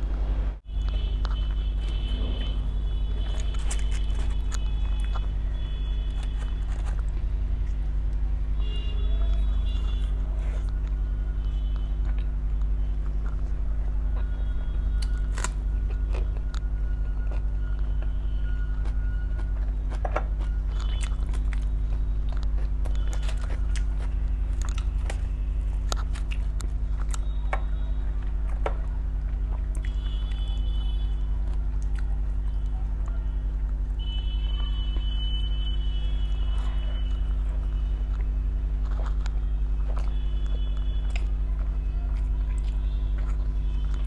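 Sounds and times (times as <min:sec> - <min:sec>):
low electrical hum: 0:00.0 - 0:44.0
person chewing food: 0:00.7 - 0:08.2, 0:08.9 - 0:33.9, 0:36.2 - 0:44.0.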